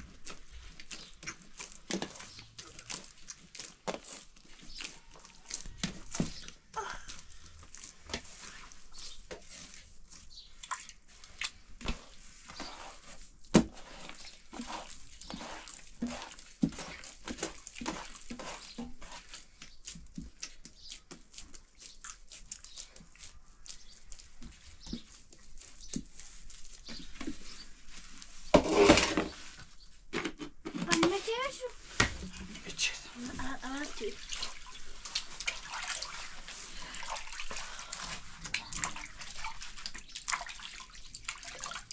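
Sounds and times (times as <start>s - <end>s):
hands kneading dough: 0.0s - 41.9s.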